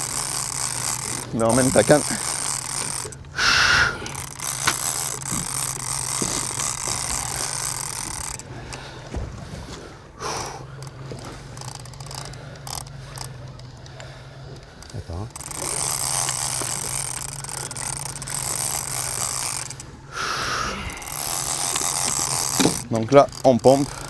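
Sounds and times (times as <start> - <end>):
casting reel clicking: 0.0 - 9.0, 10.2 - 24.0
boat engine idling hum: 0.0 - 24.0.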